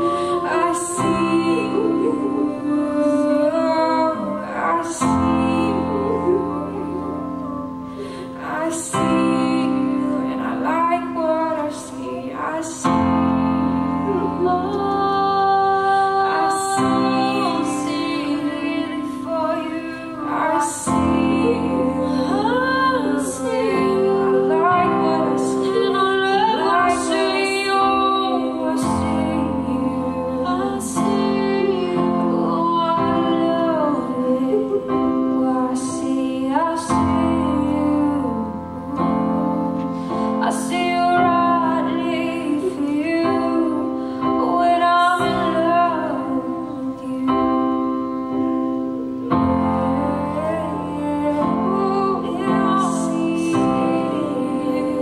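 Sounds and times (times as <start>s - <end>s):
sustained keyboard chords: 0.0s - 55.0s
woman singing with vibrato: 0.0s - 55.0s.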